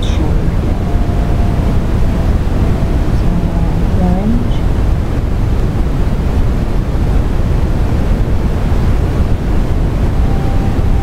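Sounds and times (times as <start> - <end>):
faint steady tone: 0.0 - 11.0
low rumbling wind noise: 0.0 - 11.0.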